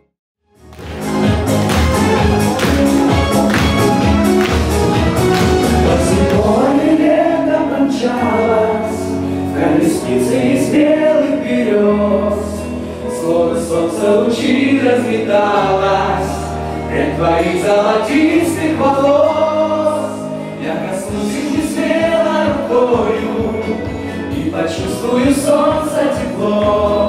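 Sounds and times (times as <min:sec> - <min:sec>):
background song: 0:00.5 - 0:27.0.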